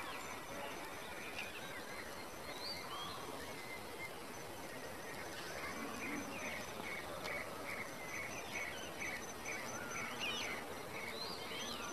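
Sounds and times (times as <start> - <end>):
faint high insect trill: 0.0 - 11.9.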